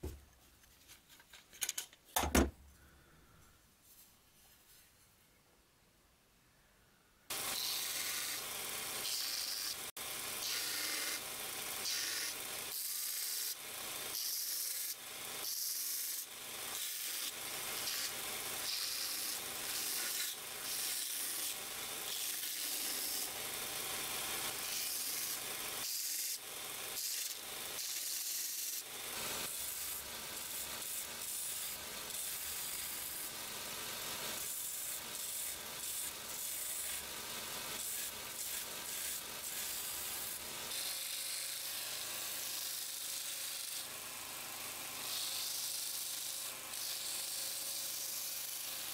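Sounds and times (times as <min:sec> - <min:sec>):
belt grinder sanding wood: 0:07.3 - 0:48.9.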